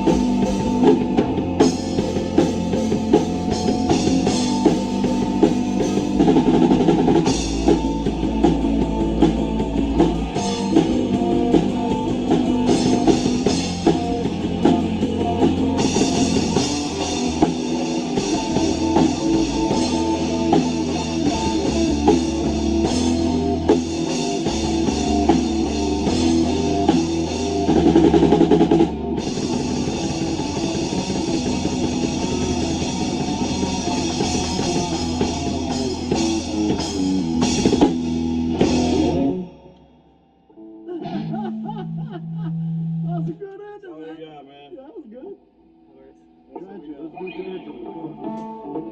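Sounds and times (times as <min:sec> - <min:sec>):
bass line: 0:00.0 - 0:39.5
drum kit: 0:00.0 - 0:40.2
rock band playing live: 0:00.0 - 0:43.3, 0:47.1 - 0:48.9
electric guitar: 0:00.0 - 0:43.4, 0:45.5 - 0:48.9.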